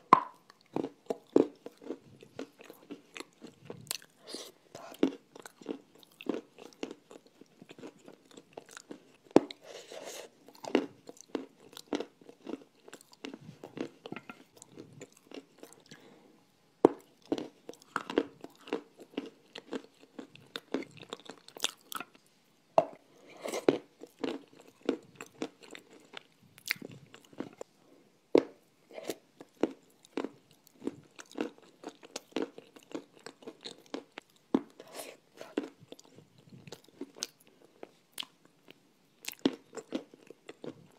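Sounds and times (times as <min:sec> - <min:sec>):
crunching and chewing clay: 0:00.1 - 0:16.1, 0:16.9 - 0:22.1, 0:23.5 - 0:27.7, 0:28.4 - 0:40.9.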